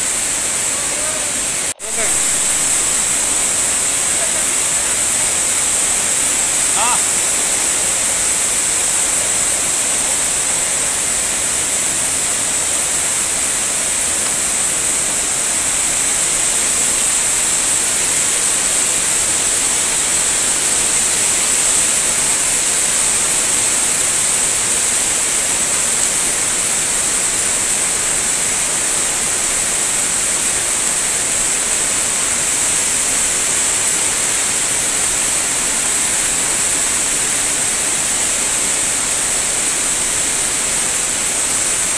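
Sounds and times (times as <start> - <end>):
floodwater rushing: 0.0 - 41.9.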